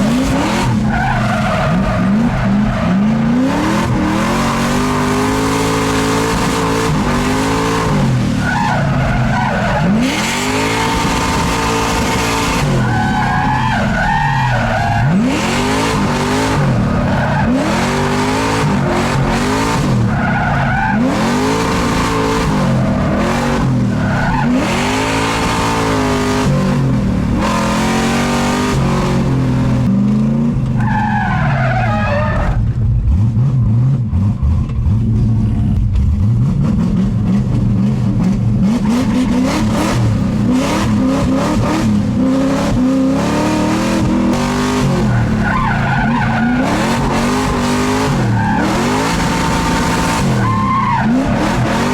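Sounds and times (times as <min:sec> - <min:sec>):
tyres squealing and skidding: 0:00.0 - 0:29.5, 0:30.8 - 0:32.7, 0:38.7 - 0:51.9
car engine revving: 0:00.0 - 0:51.9.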